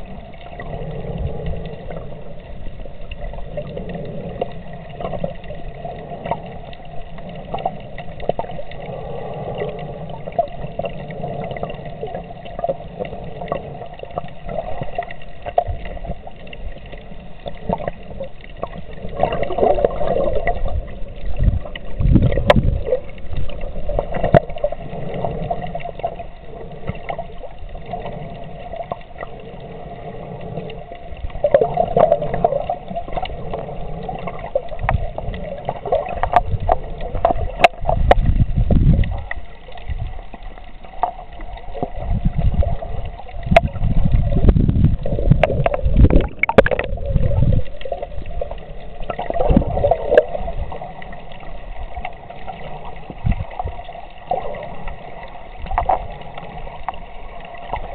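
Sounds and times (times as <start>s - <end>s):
underwater water movement: 0.0s - 57.9s.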